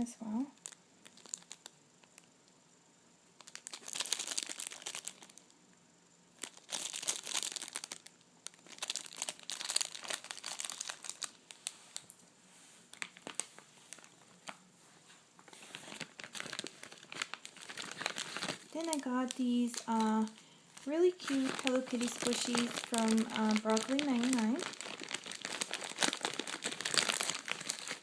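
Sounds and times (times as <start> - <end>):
plastic packaging crinkling: 0.5 - 2.3, 3.4 - 5.5, 6.4 - 12.2, 12.8 - 14.7, 15.4 - 28.0.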